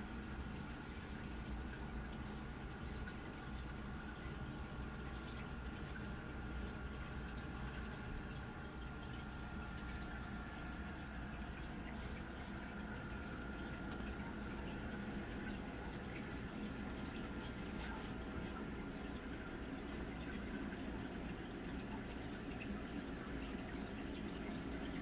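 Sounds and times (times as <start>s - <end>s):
water trickling and dripping: 0.0s - 25.0s.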